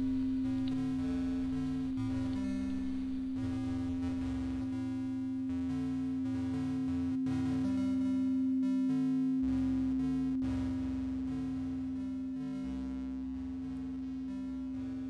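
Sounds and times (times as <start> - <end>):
low piano and square-wave notes: 0.0 - 15.0
steady sine tone: 0.0 - 15.0.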